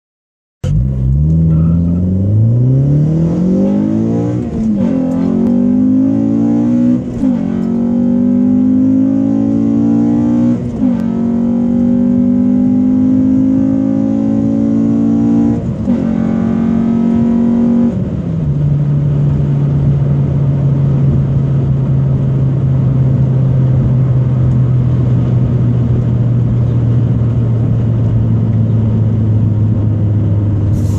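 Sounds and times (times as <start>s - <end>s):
car engine accelerating: 0.6s - 30.9s.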